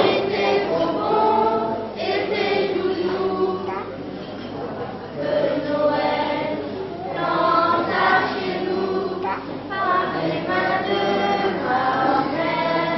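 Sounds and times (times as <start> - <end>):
children's choir singing: 0.0 - 12.9.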